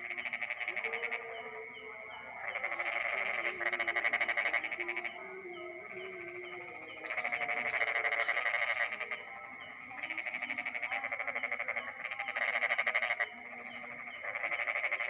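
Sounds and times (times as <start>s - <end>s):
frogs trilling: 0.0s - 15.0s
high-pitched insect drone: 0.0s - 15.0s.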